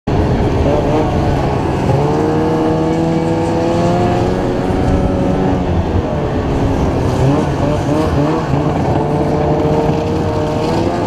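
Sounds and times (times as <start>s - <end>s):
track and wind rush: 0.1s - 11.0s
snowmobile engine revving: 0.2s - 11.0s.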